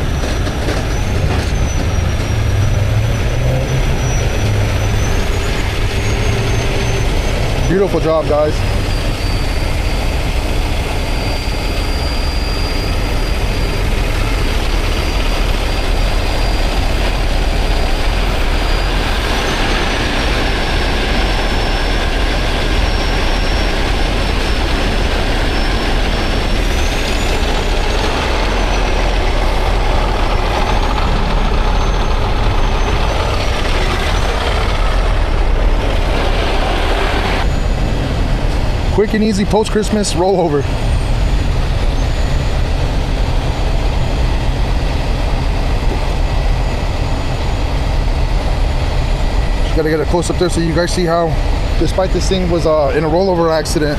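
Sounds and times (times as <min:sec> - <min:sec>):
heavy truck engine running: 0:00.0 - 0:53.9
high-pitched whine: 0:00.0 - 0:53.9.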